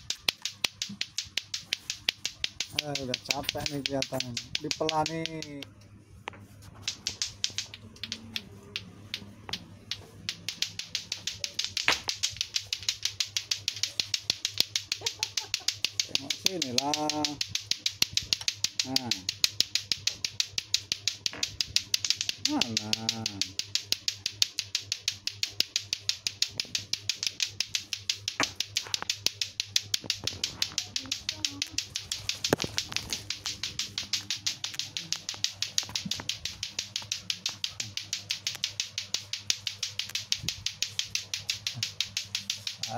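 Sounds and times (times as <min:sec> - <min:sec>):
plastic clacker balls clacking: 0:00.0 - 0:05.7, 0:06.8 - 0:42.9.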